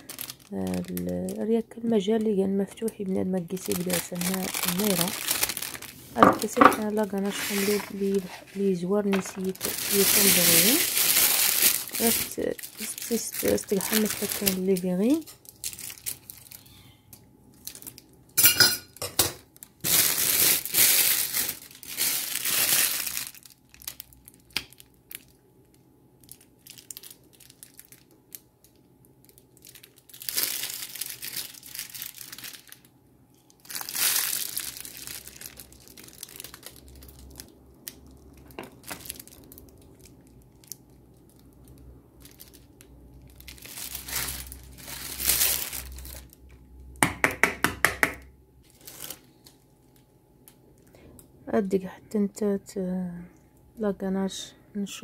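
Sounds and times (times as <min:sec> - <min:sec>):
thin plastic crinkling: 0:00.0 - 0:46.6, 0:48.6 - 0:51.0.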